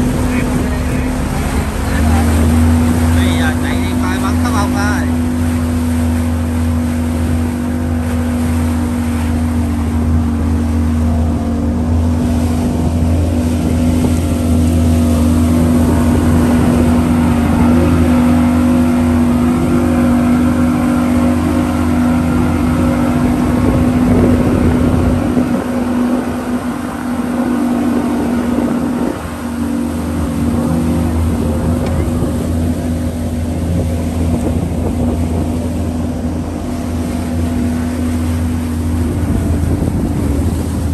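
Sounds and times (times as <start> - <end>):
motorboat engine humming: 0.0 - 40.9.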